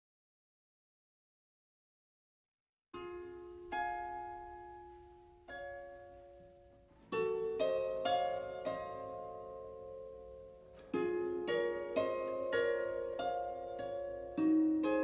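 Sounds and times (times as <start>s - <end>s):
slow plucked-string music: 3.0s - 15.0s.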